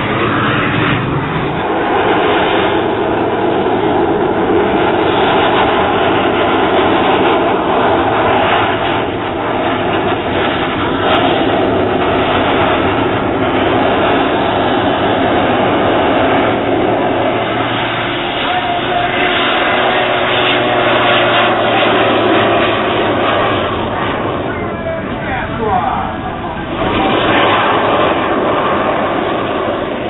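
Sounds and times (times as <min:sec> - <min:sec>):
airplane radial engine droning: 0:00.0 - 0:30.0.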